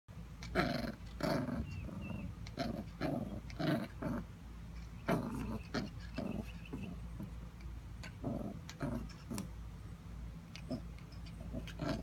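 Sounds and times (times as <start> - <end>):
puppy play-growling: 0.4 - 9.7, 10.5 - 12.0.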